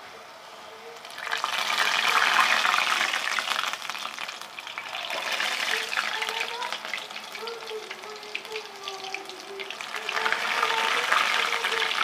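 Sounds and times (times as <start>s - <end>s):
batter sizzling in hot oil: 1.0s - 12.0s.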